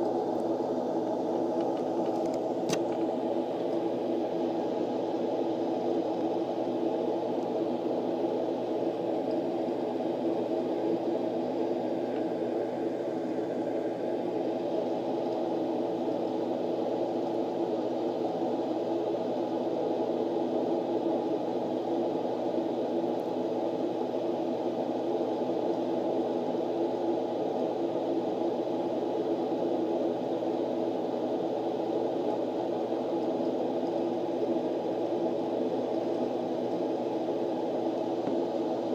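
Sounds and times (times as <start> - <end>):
background hum and hiss: 0.0 - 38.9.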